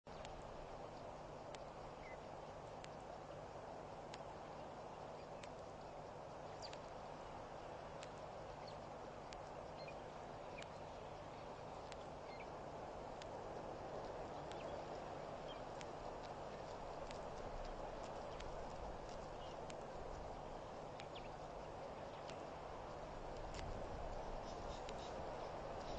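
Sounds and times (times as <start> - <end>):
steady low hiss: 0.1 - 25.9.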